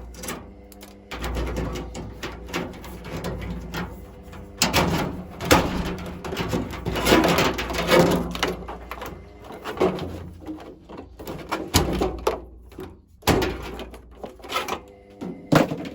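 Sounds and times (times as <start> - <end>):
low steady hum: 0.0 - 14.8
clunks and rattles of machine panels: 0.0 - 15.9.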